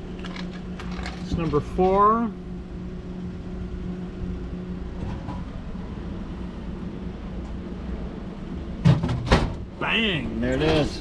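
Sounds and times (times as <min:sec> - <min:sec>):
vending machine humming: 0:00.0 - 0:11.0.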